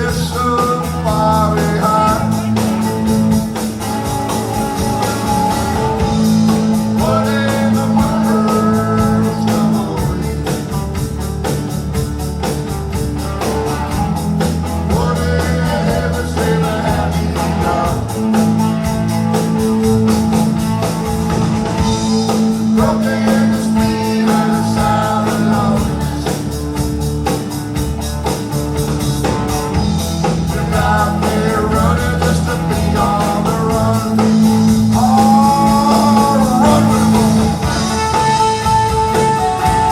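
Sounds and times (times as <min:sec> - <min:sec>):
bass line: 0:00.0 - 0:39.9
drum kit: 0:00.0 - 0:39.9
guitars: 0:00.0 - 0:39.9.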